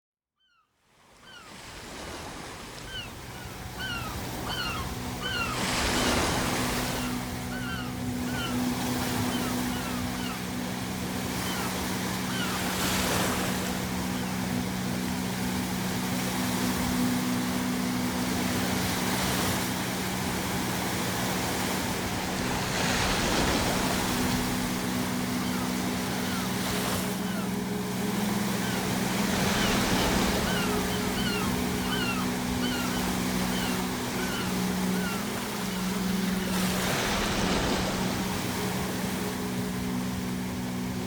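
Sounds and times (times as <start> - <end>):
ocean waves breaking: 1.2 - 41.0
seagulls calling: 1.2 - 41.0
low drone: 3.1 - 41.0.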